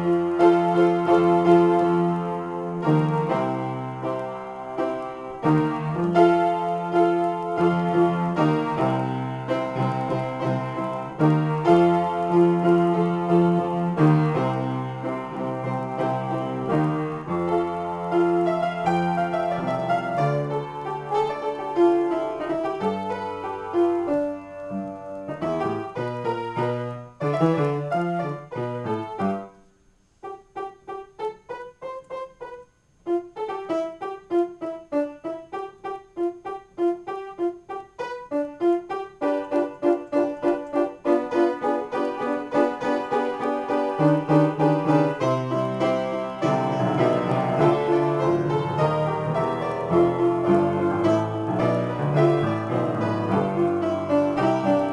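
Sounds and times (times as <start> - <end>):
solo piano improvisation: 0.0 - 54.9.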